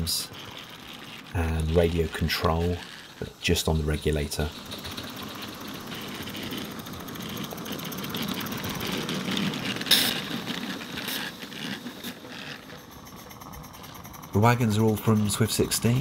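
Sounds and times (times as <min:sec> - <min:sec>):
model steam train running: 0:00.0 - 0:16.0.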